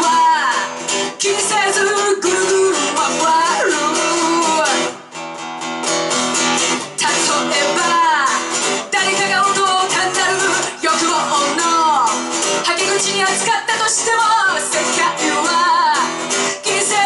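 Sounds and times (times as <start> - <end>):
person singing: 0.0 - 5.1, 6.8 - 17.0
guitar playing: 0.0 - 17.0.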